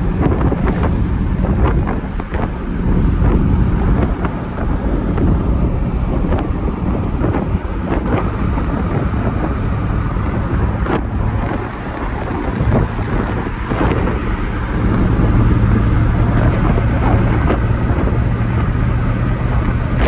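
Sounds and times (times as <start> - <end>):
moving vehicle rumble: 0.0 - 20.0
wind buffeting microphone: 0.0 - 20.0.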